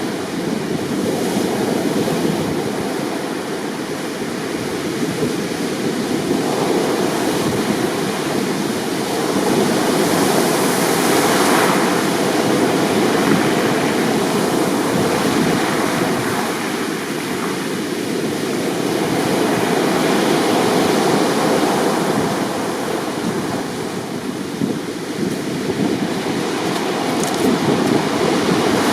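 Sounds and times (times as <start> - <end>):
heavy surf breaking waves: 0.0 - 28.9.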